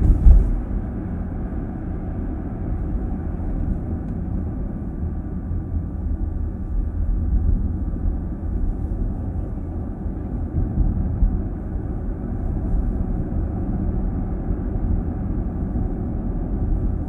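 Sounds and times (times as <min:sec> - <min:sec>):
road and tyre rumble in car: 0:00.0 - 0:17.0.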